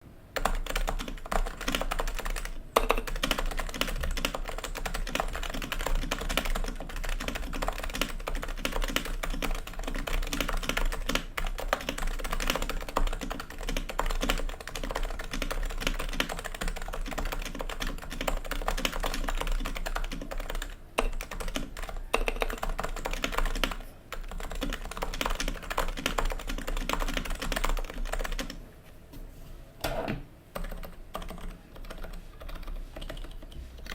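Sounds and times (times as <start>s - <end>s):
fast keyboard typing: 0.3s - 28.6s, 30.6s - 33.9s.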